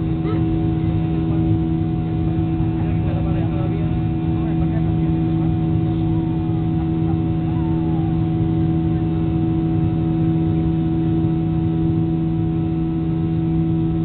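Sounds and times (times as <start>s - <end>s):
airplane cabin rushing drone: 0.0s - 14.0s
constant low hum: 0.0s - 14.0s.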